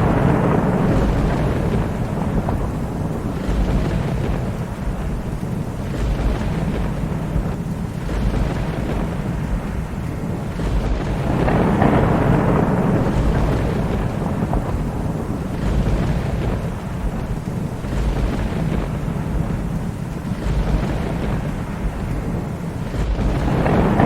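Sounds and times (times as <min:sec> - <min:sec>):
low rumbling thunder: 0:00.0 - 0:24.0
steady rain: 0:00.0 - 0:24.0.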